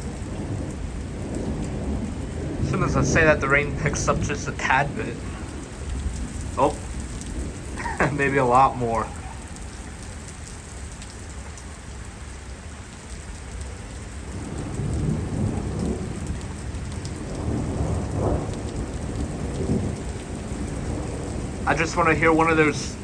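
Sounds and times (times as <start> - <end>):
thunder rumbling: 0.0 - 10.9, 14.0 - 23.0
heavy rain falling: 0.0 - 23.0.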